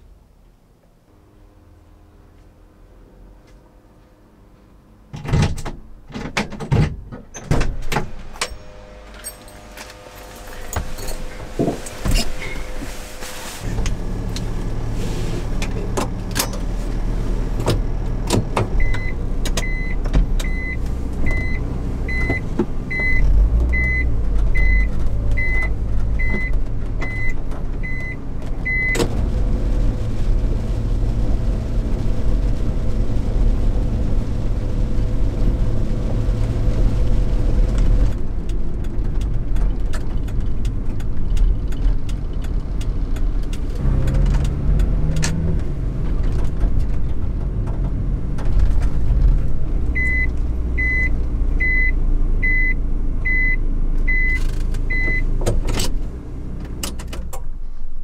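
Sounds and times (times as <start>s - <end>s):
truck engine starting and running: 5.0s - 58.0s.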